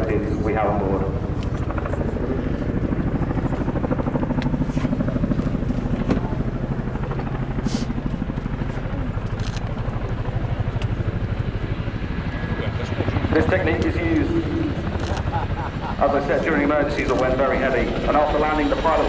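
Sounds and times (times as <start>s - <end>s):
helicopter engines humming: 0.0s - 19.0s
helicopter rotors chopping: 0.0s - 19.0s.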